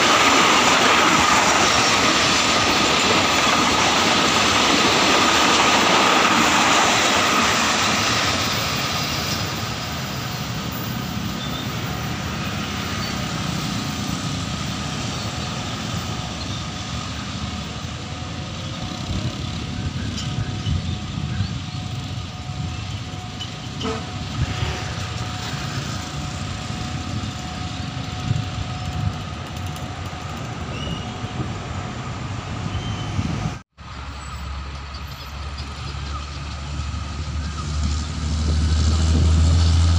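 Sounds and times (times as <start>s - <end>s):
train coaches rolling past: 0.0s - 39.9s.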